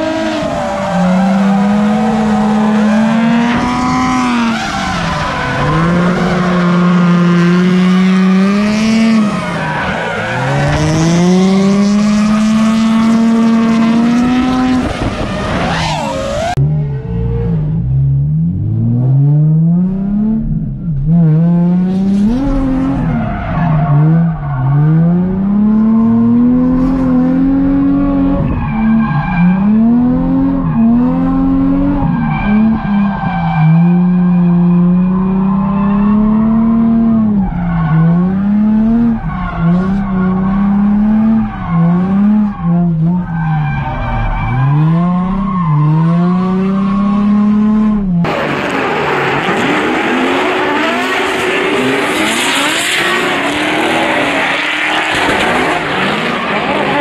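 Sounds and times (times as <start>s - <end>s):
car engine revving: 0.0s - 57.0s
distant cars revving: 0.0s - 57.0s.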